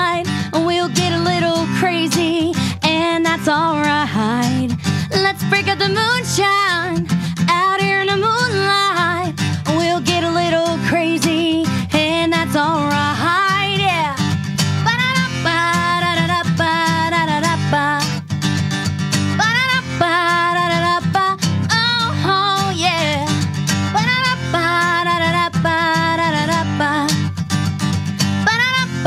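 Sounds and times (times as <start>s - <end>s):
woman singing: 0.0s - 18.3s, 19.2s - 27.4s, 28.4s - 29.0s
acoustic guitar: 0.0s - 29.0s.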